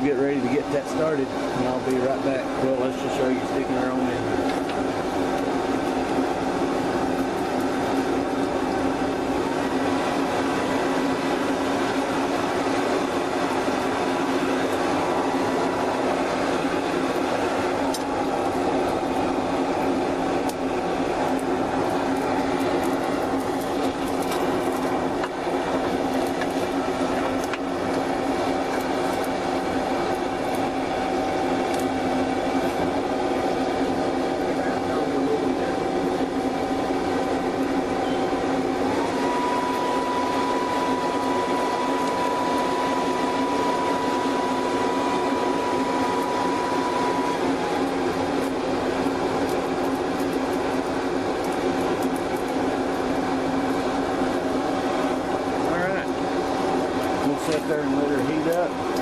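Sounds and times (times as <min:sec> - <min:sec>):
electric blower fan humming: 0:00.0 - 0:59.0.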